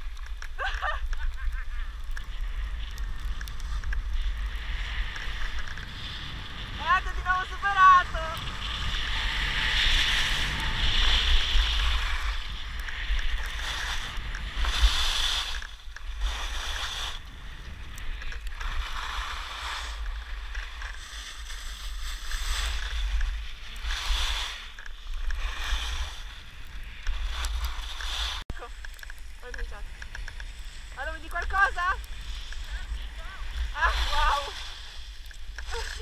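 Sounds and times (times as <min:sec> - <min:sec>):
skis scraping over snow: 0:00.0 - 0:36.0
wind rumbling on microphone: 0:00.0 - 0:36.0.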